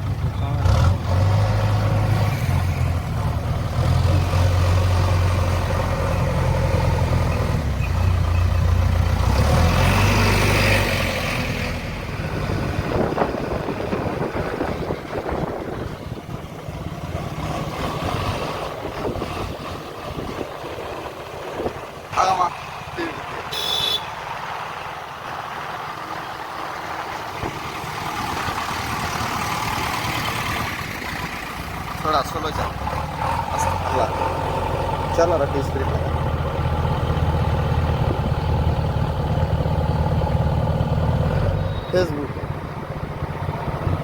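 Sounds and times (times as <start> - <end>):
diesel engine humming: 0.0 - 44.0
rough engine rumble: 0.0 - 44.0.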